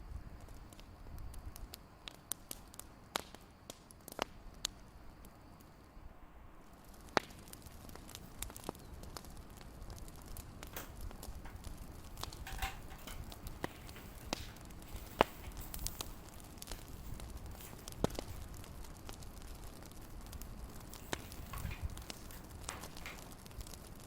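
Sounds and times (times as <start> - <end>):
low steady fire rumble: 0.0 - 24.0
wood fire crackling: 0.0 - 24.0.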